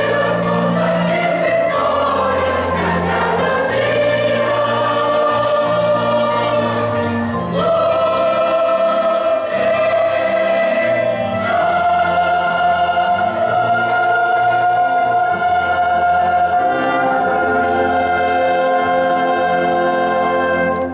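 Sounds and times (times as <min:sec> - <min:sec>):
brass and strings: 0:00.0 - 0:20.9
choir singing a hymn: 0:00.0 - 0:20.9.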